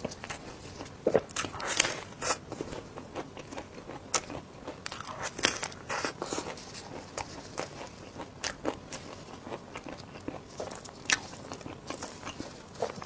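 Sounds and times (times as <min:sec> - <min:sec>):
biting and chewing: 0:00.0 - 0:13.0.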